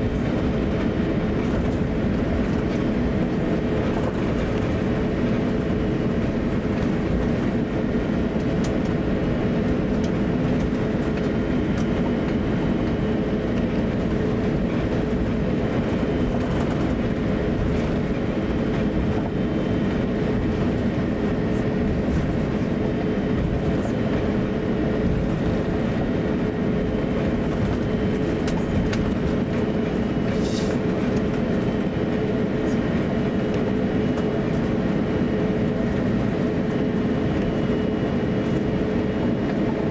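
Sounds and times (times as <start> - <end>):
aircraft cabin rumble: 0.0 - 39.9
constant hum tone: 0.0 - 39.9.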